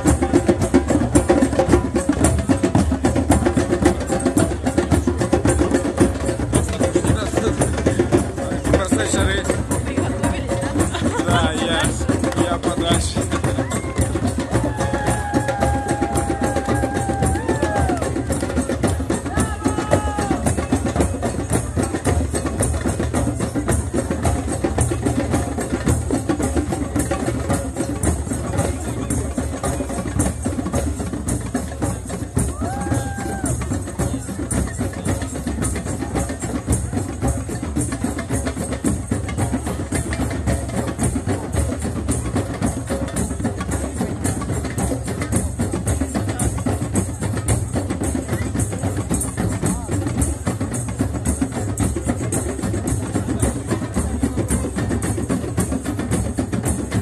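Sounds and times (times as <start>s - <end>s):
fast rhythmic drumming: 0.0s - 57.0s.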